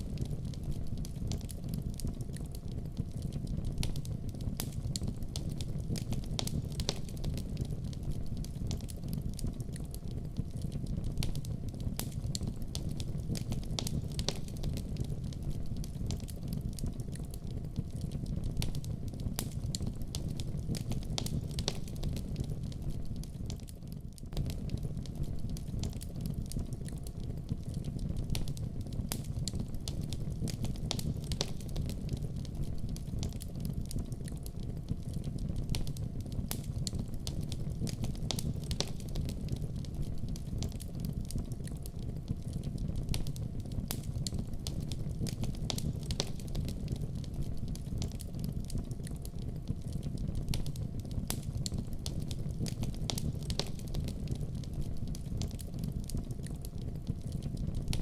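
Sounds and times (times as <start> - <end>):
fire popping and crackling: 0.0 - 58.0
low rumble of flames: 0.0 - 58.0.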